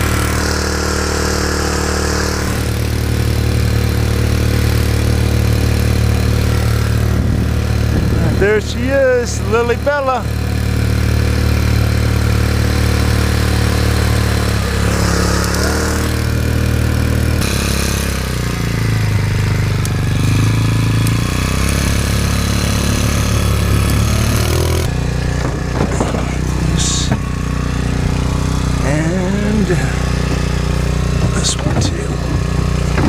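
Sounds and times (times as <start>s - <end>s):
small outboard motor running: 0.0s - 33.0s.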